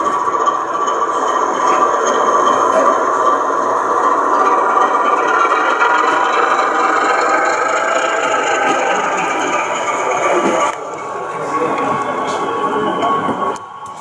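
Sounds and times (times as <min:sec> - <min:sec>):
hum of busy hall: 0:00.0 - 0:14.0
model train running on rails: 0:00.0 - 0:14.0.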